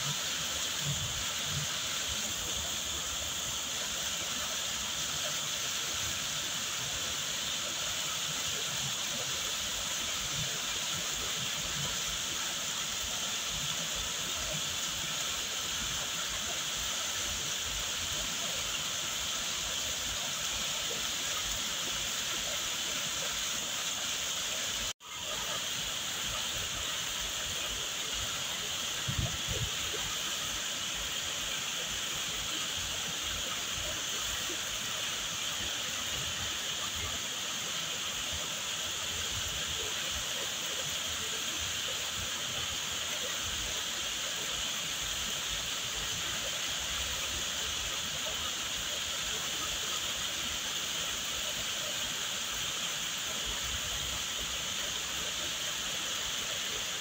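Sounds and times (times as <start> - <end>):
waterfall pouring and splashing: 0.0 - 57.0.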